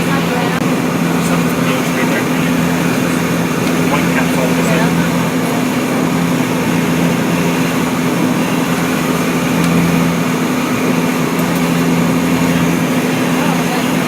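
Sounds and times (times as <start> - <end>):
vehicle travel noise: 0.0 - 14.0.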